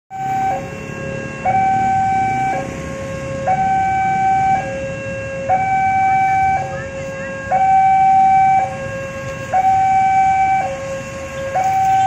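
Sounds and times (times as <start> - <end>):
level crossing two-tone alarm: 0.1 - 12.0
motorbike traffic hum: 0.1 - 12.0.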